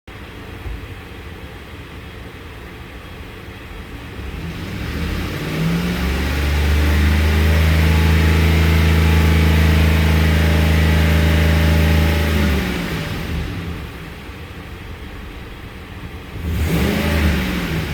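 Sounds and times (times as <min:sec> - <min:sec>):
car engine idling and revving: 0:00.1 - 0:17.9.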